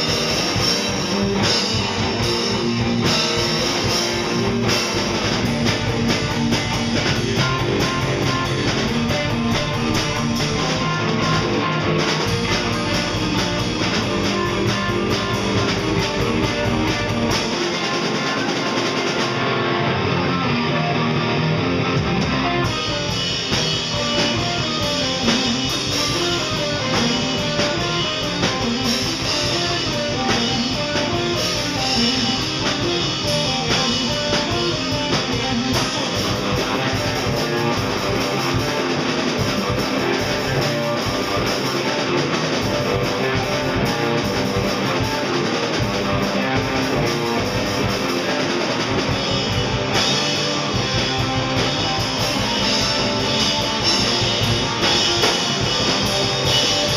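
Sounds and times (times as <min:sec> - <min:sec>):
rock band on electric guitars: 0:00.0 - 0:56.9.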